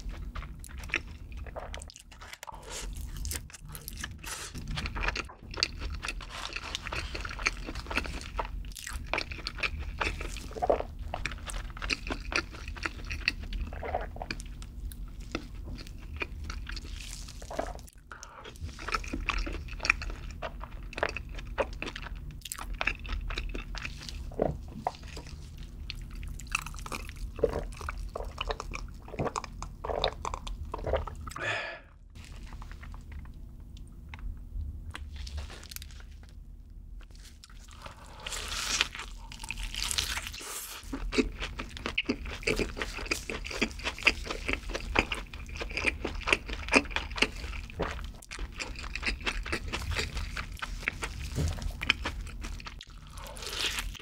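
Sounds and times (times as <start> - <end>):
chewing crunchy fries: 0.0 - 31.4, 32.2 - 54.0.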